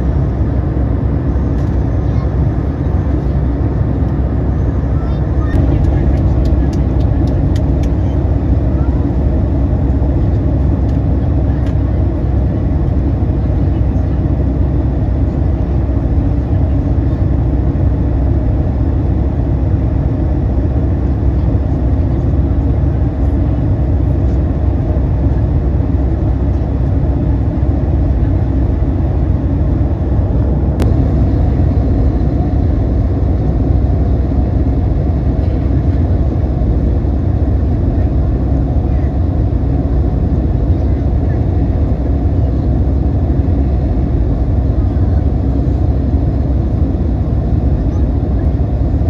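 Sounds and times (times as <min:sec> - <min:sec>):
jet engine rumble in cabin: 0:00.0 - 0:49.0.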